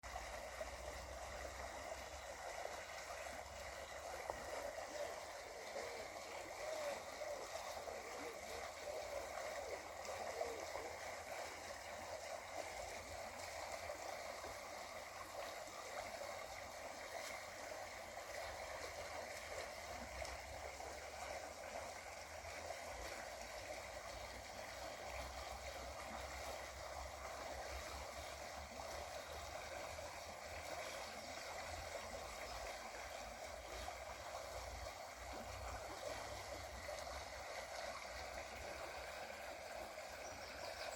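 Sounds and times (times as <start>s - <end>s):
water running over rocks: 0.0s - 40.9s.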